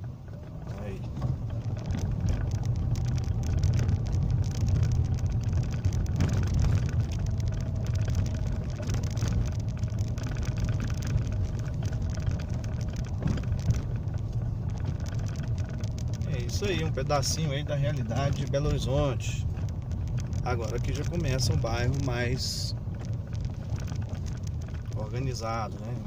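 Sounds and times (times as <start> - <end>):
engine and tyre rumble: 0.0 - 26.0
ticks and rattles: 0.0 - 26.0.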